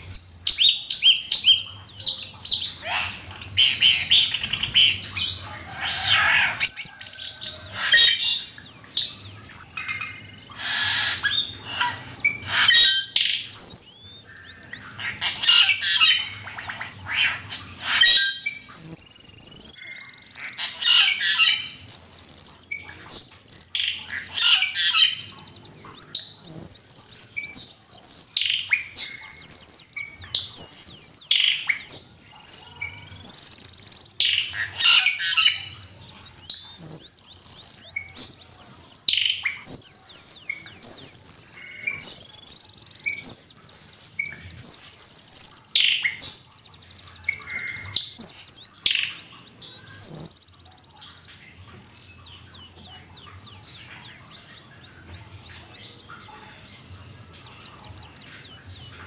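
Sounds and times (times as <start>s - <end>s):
bird chattering chirps: 0.0s - 59.0s
bird singing high-pitched calls: 0.0s - 59.0s.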